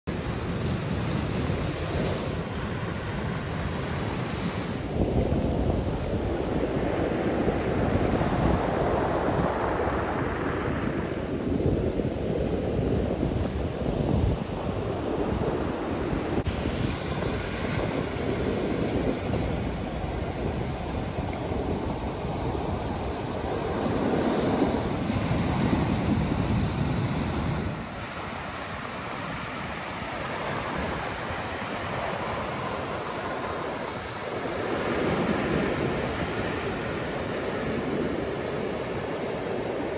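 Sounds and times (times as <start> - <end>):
ocean surf breaking on a beach: 0.1 - 39.9.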